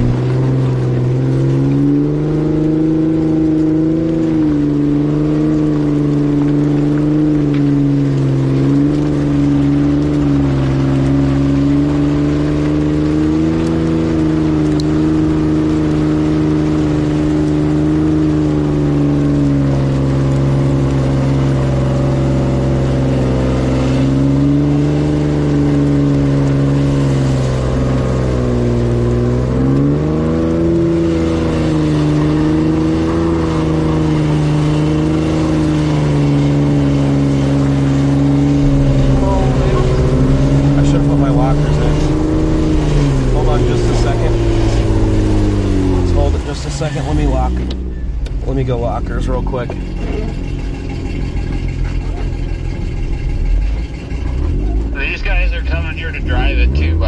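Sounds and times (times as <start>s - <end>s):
jeep engine revving under load: 0.0s - 57.0s.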